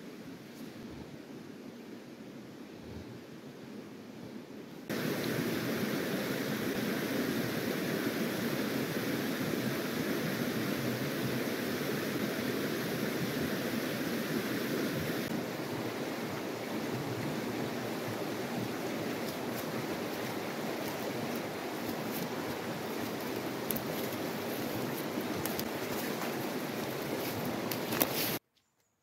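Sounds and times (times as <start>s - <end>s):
river rushing over stones: 4.9s - 28.4s.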